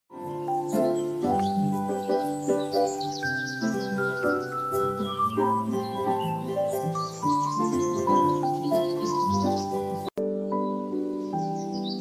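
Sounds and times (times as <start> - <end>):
calm music with sustained chords: 0.2 - 12.0.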